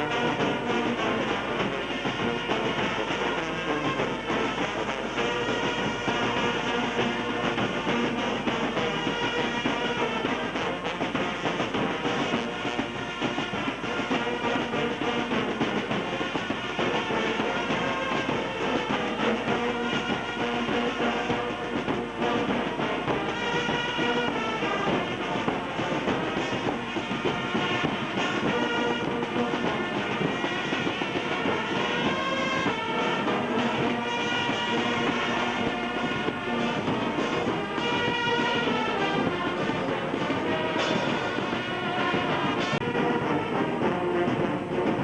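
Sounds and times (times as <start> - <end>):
brass band playing: 0.0 - 45.0.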